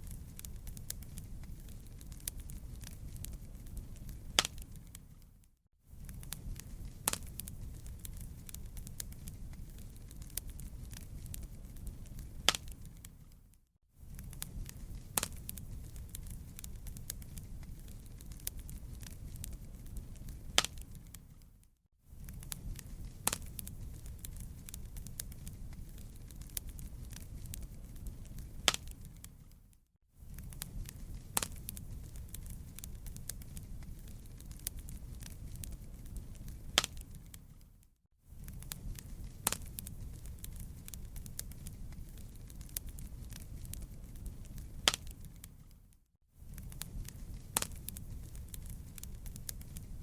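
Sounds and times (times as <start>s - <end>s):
campfire crackling and popping: 0.0s - 5.4s, 6.0s - 13.5s, 14.1s - 29.7s, 30.3s - 50.0s.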